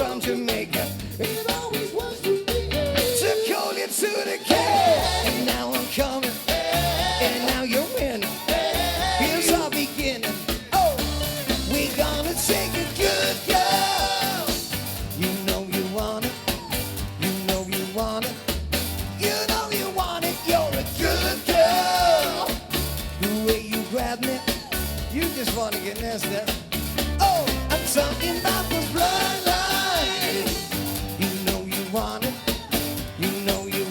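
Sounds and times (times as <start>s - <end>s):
person singing: 0.0s - 18.5s, 19.2s - 26.6s, 27.2s - 33.9s
live band playing upbeat music: 0.0s - 33.9s.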